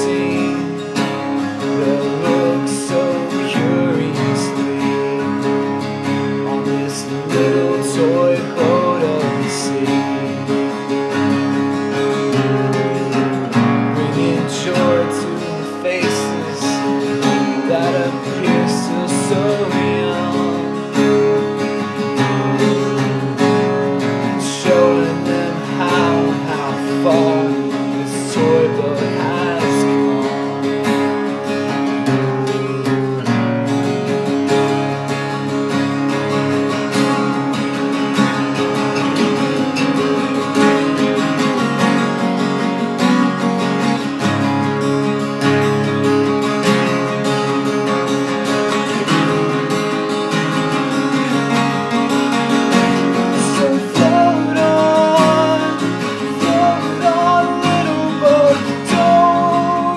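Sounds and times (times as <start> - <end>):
acoustic guitars strumming: 0.0 - 59.9.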